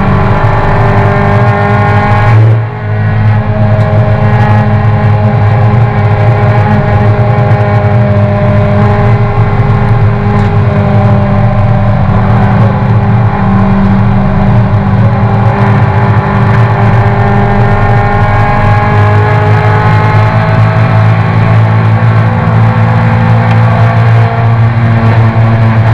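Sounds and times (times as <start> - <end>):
racing car engine at high revs: 0.0 - 25.9.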